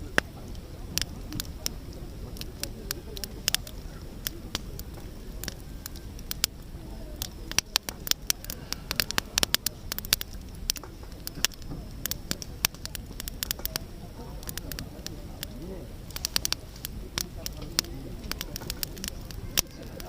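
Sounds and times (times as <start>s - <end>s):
campfire crackling and popping: 0.0s - 20.0s
low rumble of burning fire: 0.0s - 20.0s.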